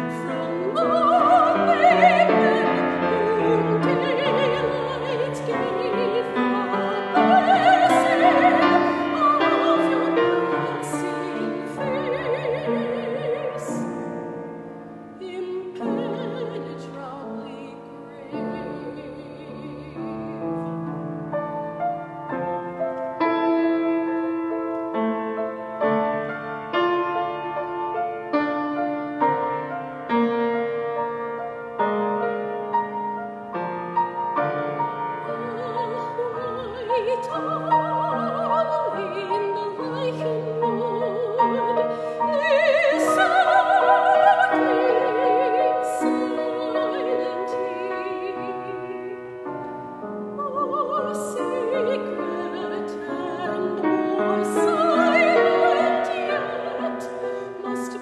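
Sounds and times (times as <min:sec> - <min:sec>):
soprano singing with vibrato: 0:00.0 - 0:30.8, 0:32.3 - 0:58.0
piano accompaniment: 0:00.0 - 0:58.0.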